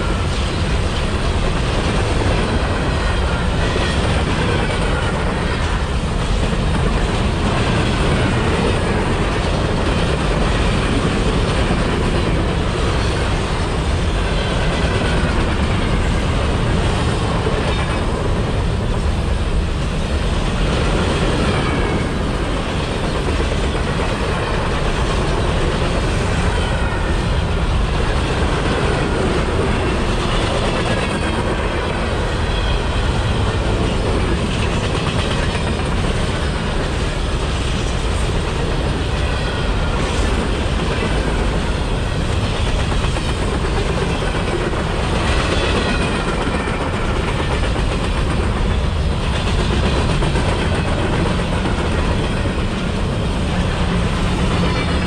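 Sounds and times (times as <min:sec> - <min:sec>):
freight train rolling on rails: 0:00.0 - 0:55.0.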